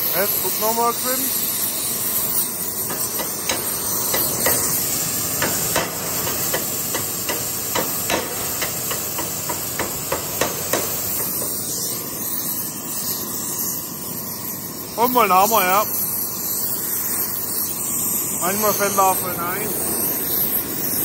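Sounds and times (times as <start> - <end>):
gas torch hissing: 0.0 - 21.0.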